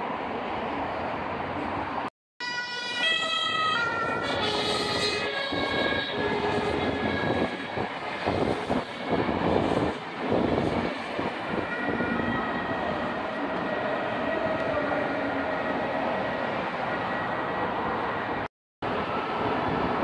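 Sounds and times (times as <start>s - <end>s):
electric train rumble and clatter: 3.0s - 20.0s.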